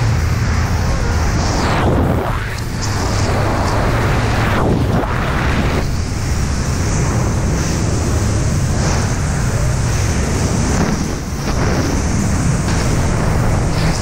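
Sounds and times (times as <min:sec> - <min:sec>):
freefall wind buffeting microphone: 0:00.0 - 0:14.0.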